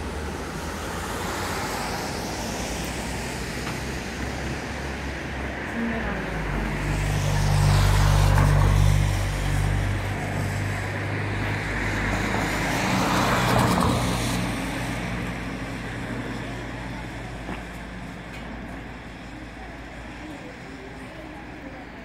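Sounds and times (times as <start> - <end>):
traffic engine rumble: 0.0 - 22.0.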